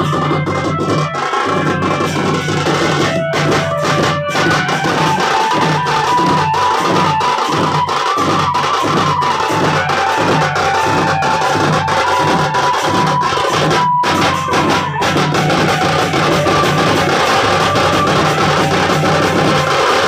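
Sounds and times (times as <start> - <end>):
drums beaten with sticks: 0.0 - 20.0
high held melody line: 0.0 - 20.0.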